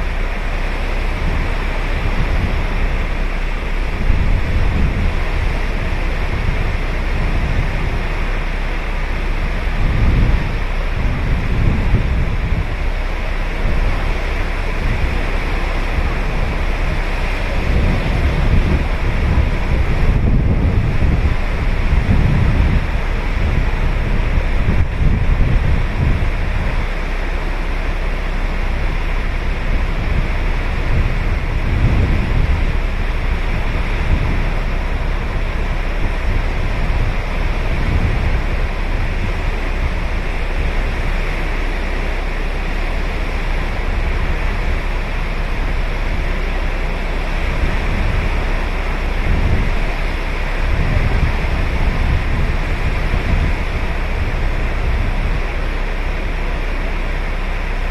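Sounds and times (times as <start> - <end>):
ocean waves breaking on beach: 0.0 - 57.9
wind buffeting microphone: 0.0 - 57.9.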